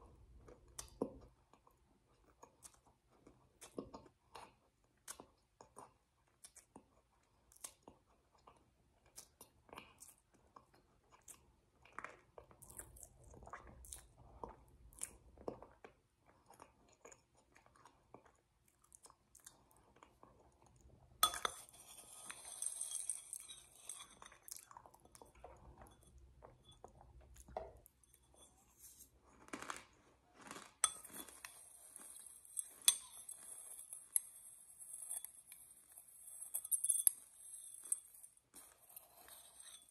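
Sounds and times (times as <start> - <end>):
person chewing and crunching snack: 0.0 - 39.9.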